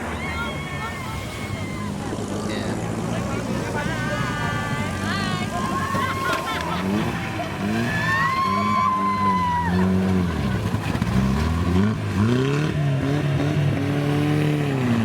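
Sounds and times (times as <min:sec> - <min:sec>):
engine revving: 0:02.1 - 0:15.0.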